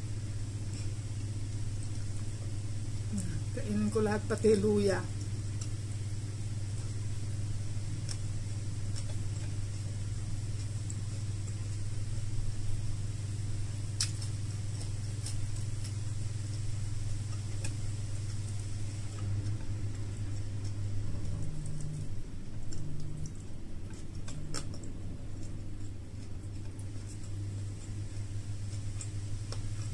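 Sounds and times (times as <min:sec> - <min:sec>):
steady low hum: 0:00.0 - 0:29.9
eating and chewing clicks: 0:00.1 - 0:29.9.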